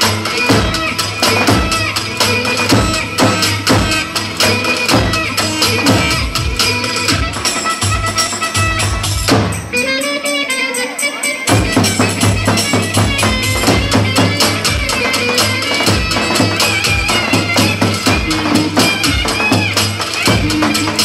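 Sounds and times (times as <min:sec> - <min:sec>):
loud dance music: 0:00.0 - 0:10.2, 0:11.4 - 0:21.0.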